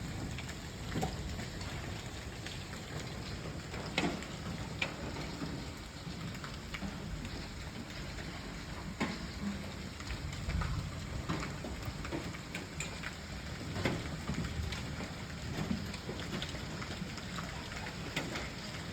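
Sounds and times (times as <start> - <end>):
hail and rain hissing: 0.0 - 18.9.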